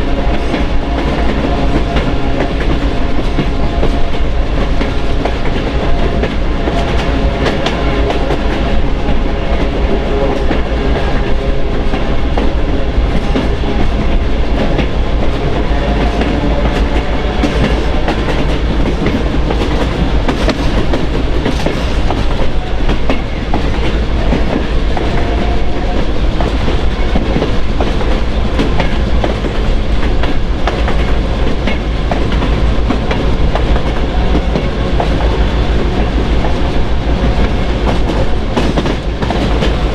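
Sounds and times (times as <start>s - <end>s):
train wheels clicking over joints: 0.0s - 39.9s.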